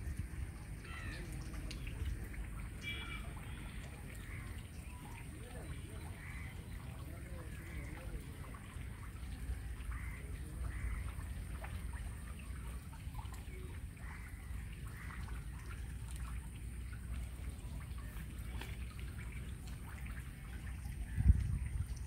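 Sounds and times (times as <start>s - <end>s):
water trickling and pouring: 0.0s - 22.0s.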